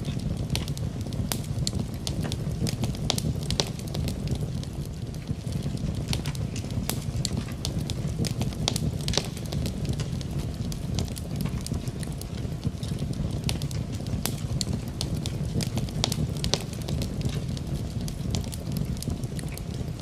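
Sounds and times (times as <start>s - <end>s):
rain: 0.0s - 20.0s
wood fire crackling: 0.0s - 20.0s.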